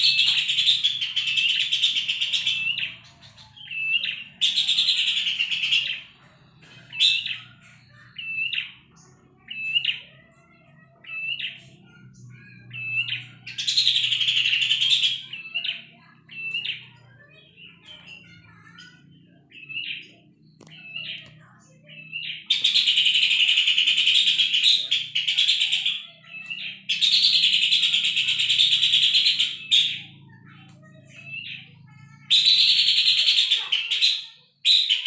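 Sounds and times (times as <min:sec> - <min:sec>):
bird harsh chattering: 0:00.0 - 0:35.0.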